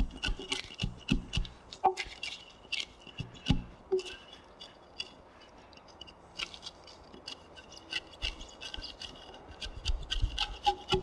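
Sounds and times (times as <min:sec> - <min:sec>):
chisel scraping wood: 0:00.0 - 0:11.0.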